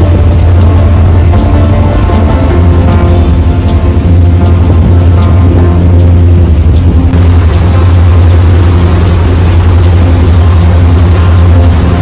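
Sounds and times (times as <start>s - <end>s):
constant rush: 0.0s - 12.0s
ferry engines droning: 0.0s - 12.0s.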